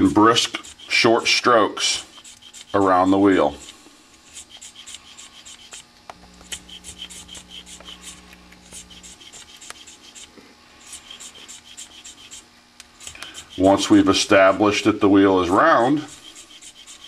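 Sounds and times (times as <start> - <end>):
plastic wheel scraping against blade: 0.0 - 12.4, 13.0 - 14.0, 15.9 - 17.0.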